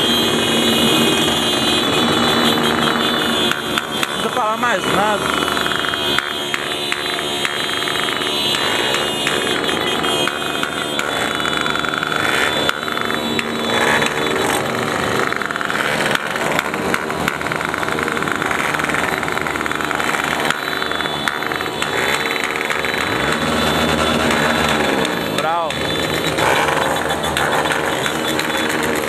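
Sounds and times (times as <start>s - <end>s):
motorcycles idling and revving: 0.0s - 29.0s.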